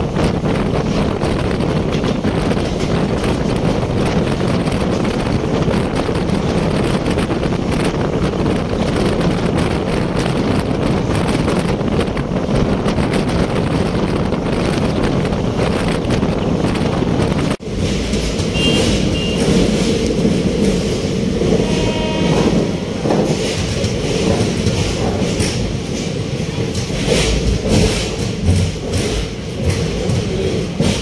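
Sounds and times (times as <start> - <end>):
train coach rumbling: 0.0 - 31.0
wind on microphone: 0.0 - 31.0.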